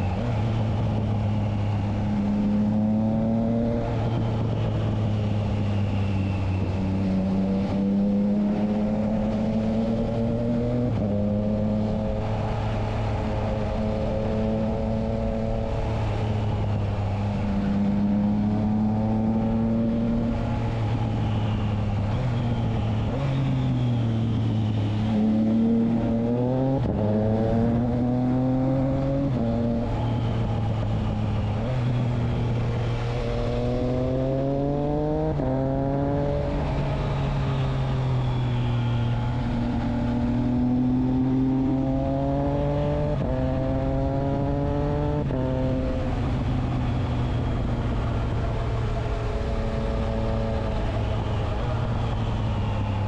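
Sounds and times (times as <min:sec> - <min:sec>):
motorcycle engine revving: 0:00.0 - 0:38.4, 0:39.4 - 0:53.0.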